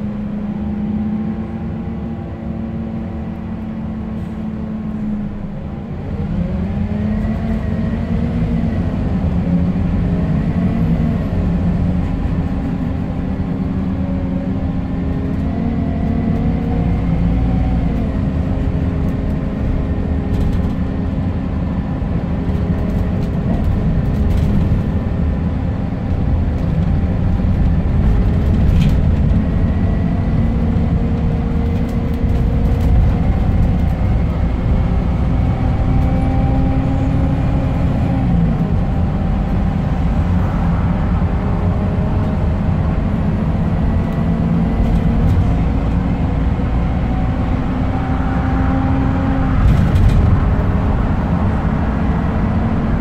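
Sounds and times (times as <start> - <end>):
bus diesel engine rumbling: 0.0 - 53.0.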